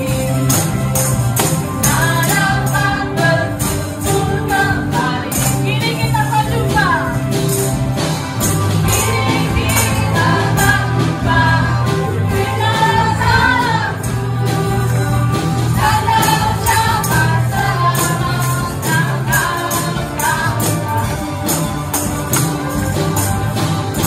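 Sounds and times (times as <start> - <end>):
band playing: 0.0 - 24.0
tambourines jingling: 0.0 - 24.0
group singing gospel: 1.4 - 6.2, 8.7 - 24.0.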